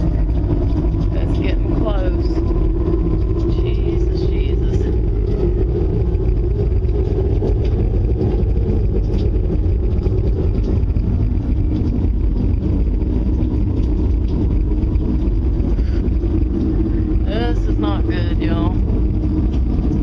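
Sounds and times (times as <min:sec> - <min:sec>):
storm wind roaring: 0:00.0 - 0:20.0.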